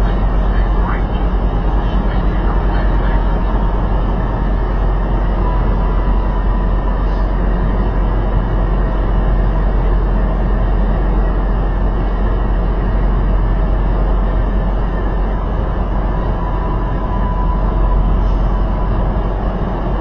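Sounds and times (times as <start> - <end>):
road noise: 0.0 - 20.0
truck engine rumbling: 0.0 - 20.0.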